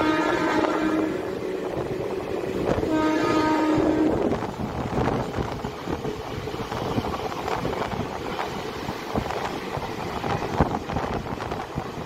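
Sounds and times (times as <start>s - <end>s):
passenger train rumble: 0.0s - 12.0s
wind rushing over microphone: 0.0s - 12.0s.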